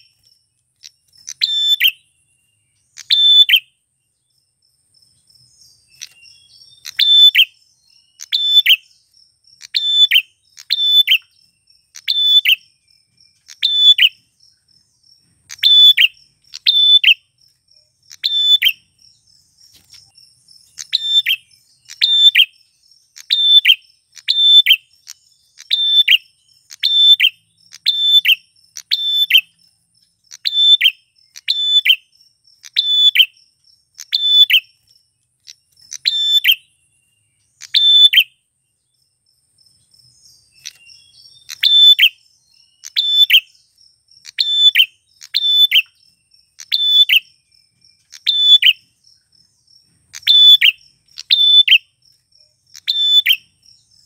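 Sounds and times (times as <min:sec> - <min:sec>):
bird calling sharp high calls: 0:00.0 - 0:03.8, 0:05.5 - 0:14.4, 0:15.2 - 0:29.6, 0:30.2 - 0:38.5, 0:40.2 - 0:47.4, 0:48.0 - 0:49.0, 0:49.9 - 0:54.0.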